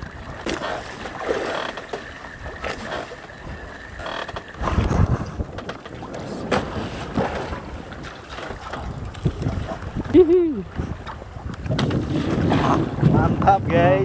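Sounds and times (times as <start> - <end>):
water splashing against boat: 0.0 - 14.0
wind on microphone: 2.4 - 14.0.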